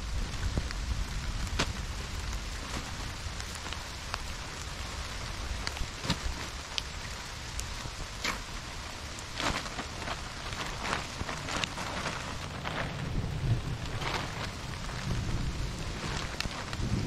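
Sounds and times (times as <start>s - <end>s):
heavy rain pouring: 0.0s - 17.0s
raindrops tapping close by: 0.0s - 17.0s.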